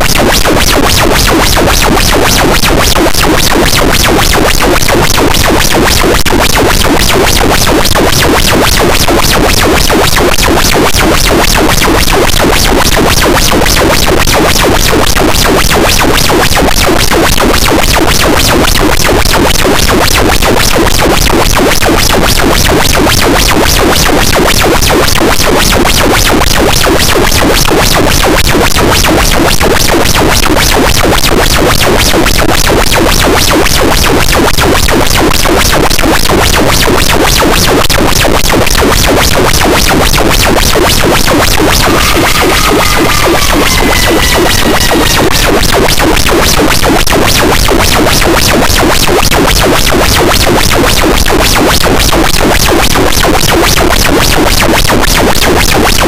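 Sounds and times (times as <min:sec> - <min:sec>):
distorted noise wall: 0:00.0 - 0:56.0.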